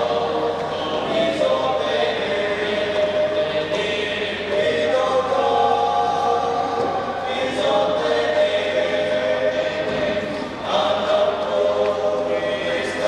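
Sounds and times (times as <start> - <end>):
male choir singing: 0.0 - 13.0.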